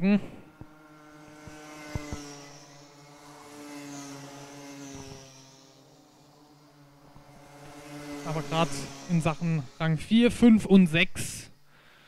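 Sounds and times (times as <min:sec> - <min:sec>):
racing kart engines buzzing: 0:00.0 - 0:12.0.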